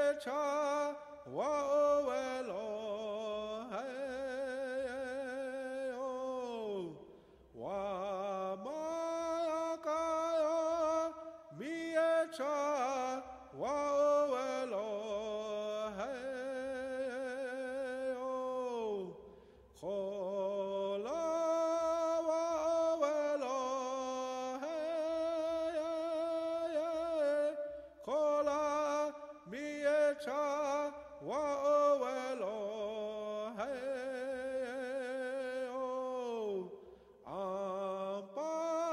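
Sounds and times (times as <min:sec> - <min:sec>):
wordless chant-like singing: 0:00.0 - 0:38.9.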